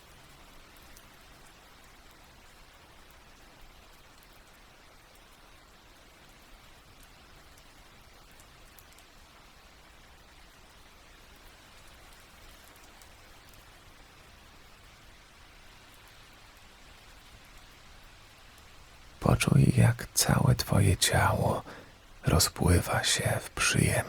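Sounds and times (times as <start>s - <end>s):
soft rain falling: 0.0s - 24.0s.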